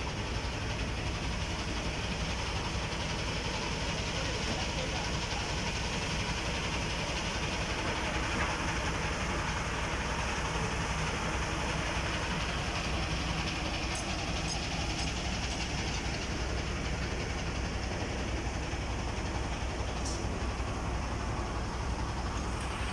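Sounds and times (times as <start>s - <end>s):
concrete pump engine drone: 0.0s - 22.9s
machinery noise: 0.0s - 22.9s.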